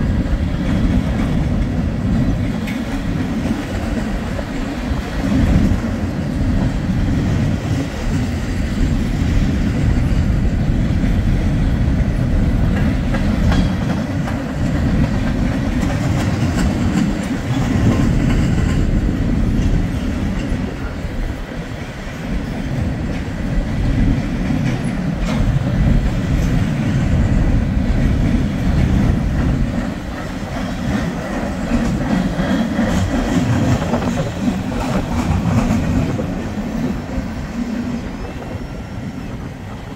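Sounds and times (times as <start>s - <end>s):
freight train rumbling: 0.0s - 39.9s
wheels clicking over rail joints: 0.1s - 38.6s.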